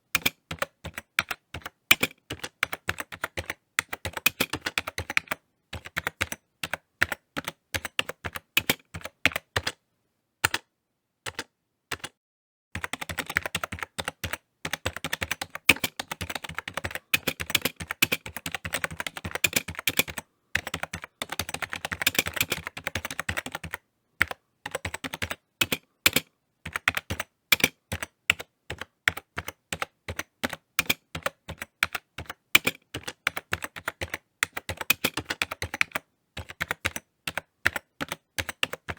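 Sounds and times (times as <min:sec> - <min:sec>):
computer keyboard typing: 0:00.0 - 0:09.8, 0:10.4 - 0:10.7, 0:11.3 - 0:12.2, 0:12.8 - 0:38.9.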